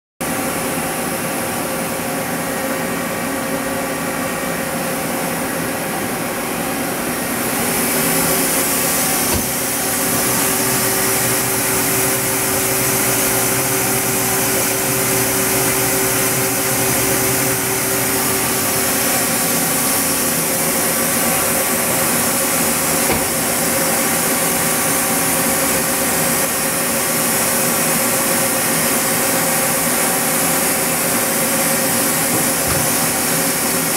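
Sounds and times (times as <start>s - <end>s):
lathe humming and hissing: 0.7s - 33.9s.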